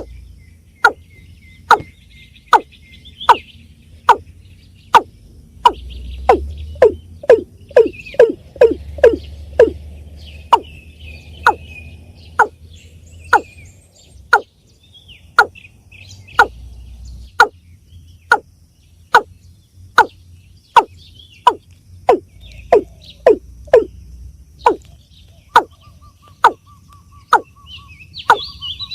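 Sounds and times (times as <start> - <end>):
faint small bird chirps: 0.0 - 28.9.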